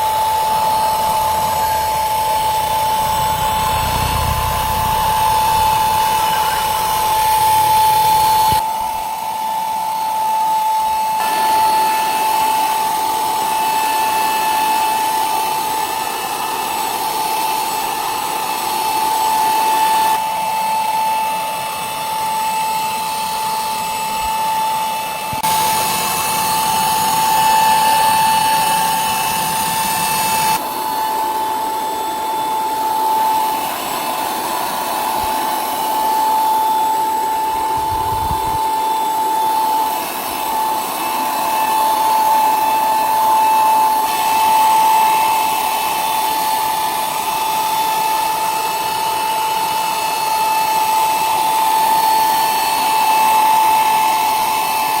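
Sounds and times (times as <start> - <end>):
electric power tool whining: 0.0 - 55.0.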